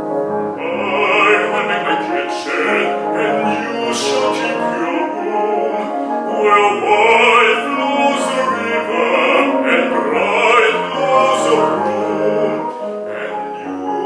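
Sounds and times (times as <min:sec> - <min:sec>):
instrumental accompaniment: 0:00.0 - 0:14.0
bass voice singing opera: 0:00.6 - 0:14.0.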